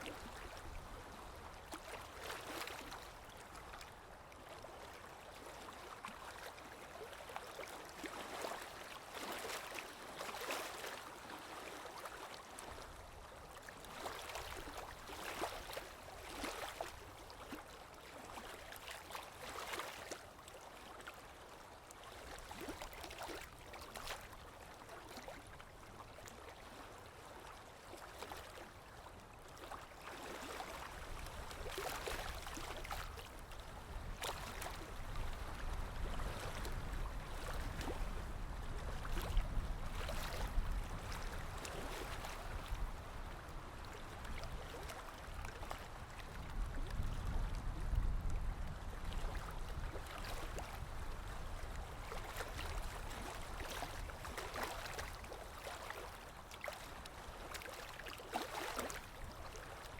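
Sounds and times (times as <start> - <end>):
small waves lapping on shore: 0.0 - 59.9.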